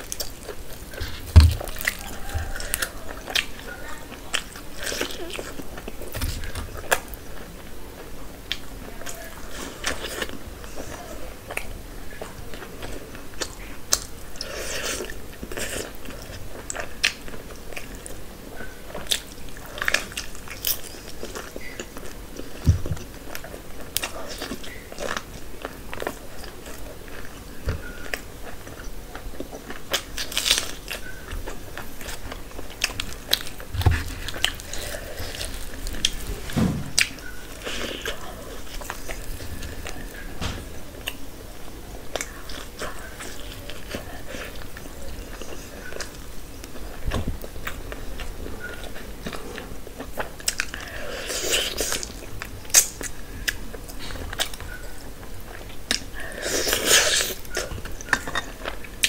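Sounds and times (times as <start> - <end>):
chewing and biting: 0.0 - 41.2, 42.1 - 59.0.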